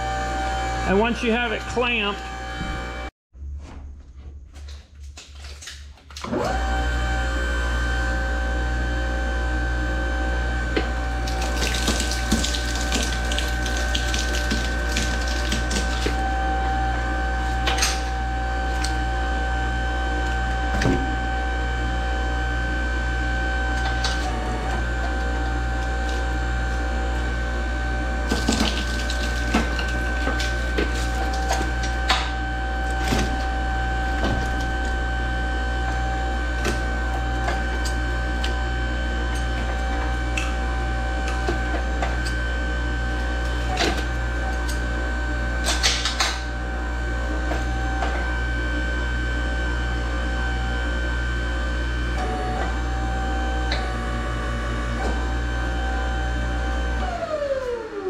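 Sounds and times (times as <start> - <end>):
hydraulic pump humming and whining: 0.0 - 3.1, 4.0 - 58.0.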